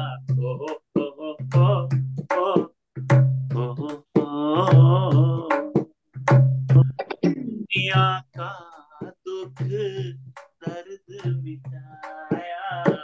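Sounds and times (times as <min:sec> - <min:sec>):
man singing devotional song: 0:00.0 - 0:05.9, 0:07.7 - 0:13.0
drum strokes: 0:00.0 - 0:13.0.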